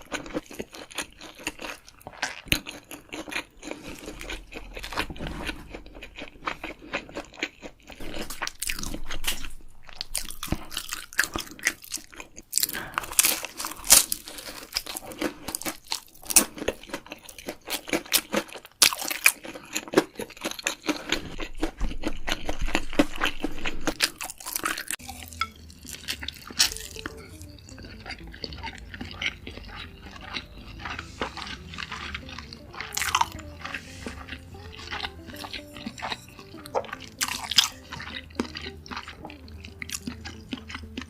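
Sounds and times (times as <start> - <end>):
crunching and chewing food: 0.0 - 41.0
faint background music: 0.0 - 41.0.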